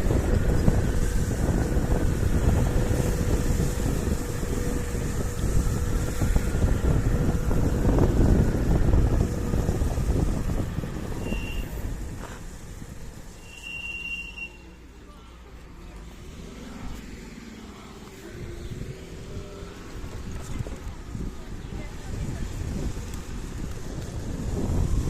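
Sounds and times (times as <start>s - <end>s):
wind buffeting microphone: 0.0s - 13.4s, 16.0s - 25.0s
electric scooter whine: 0.0s - 25.0s
road rumble: 0.0s - 25.0s.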